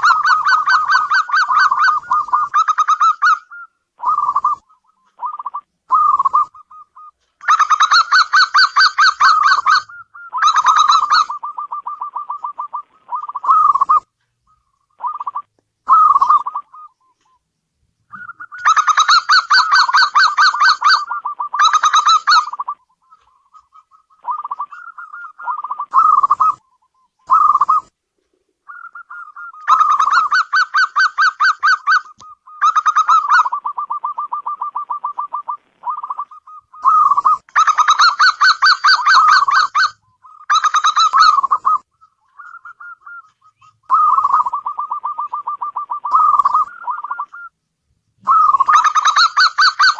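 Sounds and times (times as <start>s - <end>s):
dove rapid pulsed cooing: 0.0s - 14.1s, 15.0s - 17.2s, 18.1s - 47.5s, 48.2s - 49.9s
dove trilling coos: 0.0s - 17.4s, 18.1s - 47.6s, 48.2s - 49.9s.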